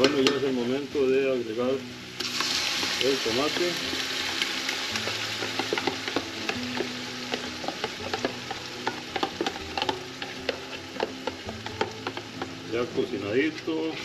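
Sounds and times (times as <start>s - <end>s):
sauce sizzling and popping: 0.0s - 14.0s.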